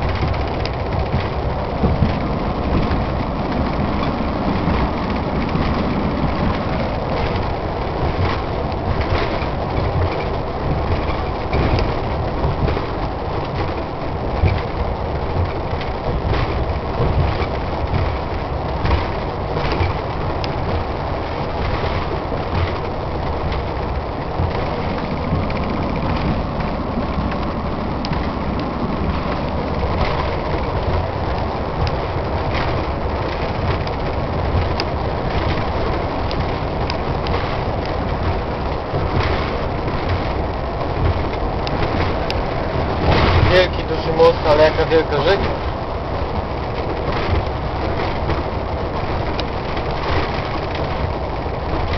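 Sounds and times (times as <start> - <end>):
road and engine rumble: 0.0 - 51.9
small clicks and rattles: 0.0 - 51.9.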